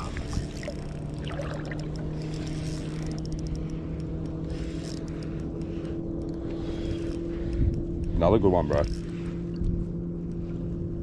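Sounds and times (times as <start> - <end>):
low motor drone: 0.0 - 11.0.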